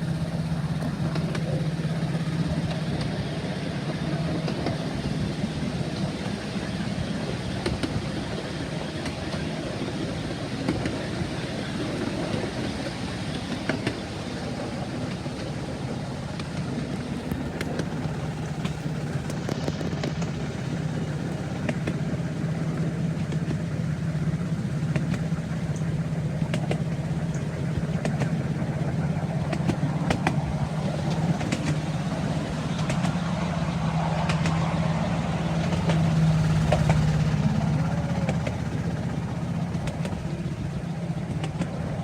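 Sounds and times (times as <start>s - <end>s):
vehicle running hum: 0.0s - 42.0s.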